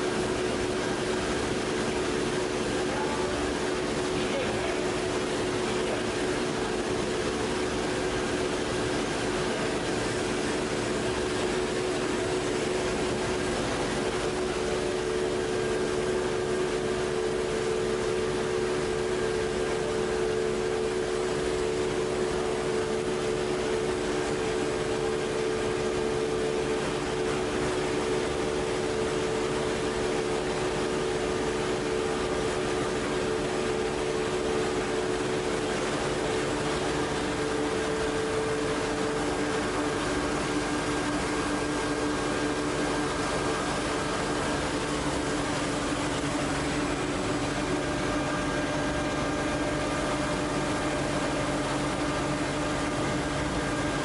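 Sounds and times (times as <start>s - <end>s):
winder machinery humming: 0.0s - 54.0s.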